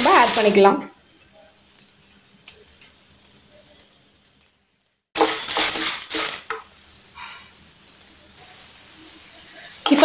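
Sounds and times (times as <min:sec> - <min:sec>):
faint hiss: 0:00.0 - 0:10.0
popcorn kernels rattling in pan: 0:00.0 - 0:10.0.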